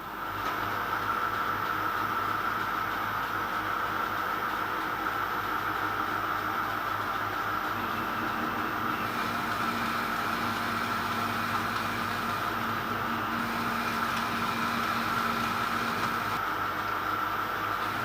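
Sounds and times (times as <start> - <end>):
motor hum: 0.0 - 18.0
metal lathe turning: 1.0 - 18.0.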